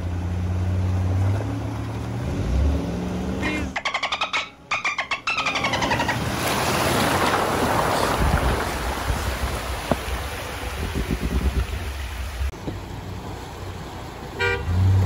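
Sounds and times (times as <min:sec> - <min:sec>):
river water rushing and splashing: 0:00.0 - 0:15.0.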